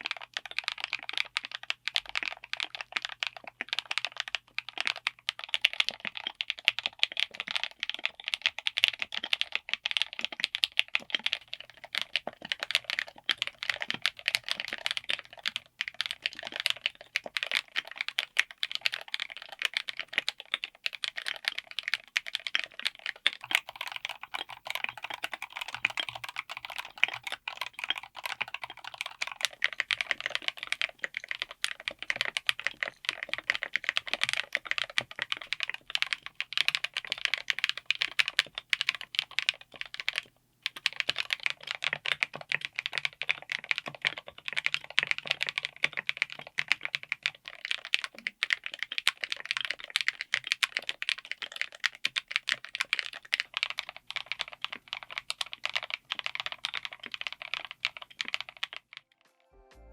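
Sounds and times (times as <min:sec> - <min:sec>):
mechanical keyboard typing: 0:00.0 - 0:59.1.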